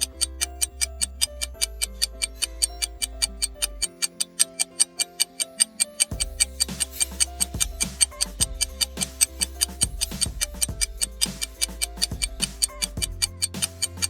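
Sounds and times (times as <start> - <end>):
bass: 0.0 - 3.9, 6.1 - 14.0
held synth notes: 0.0 - 14.0
ticking beat: 0.0 - 14.0.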